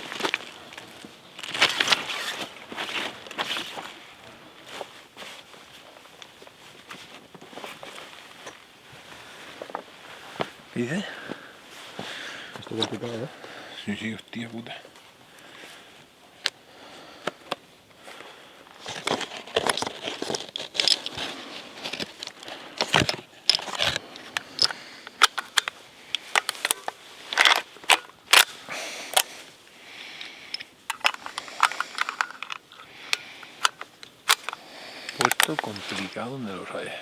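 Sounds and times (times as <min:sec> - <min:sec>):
footsteps on stony ground: 0:00.0 - 0:13.2, 0:18.0 - 0:29.6, 0:30.9 - 0:36.6.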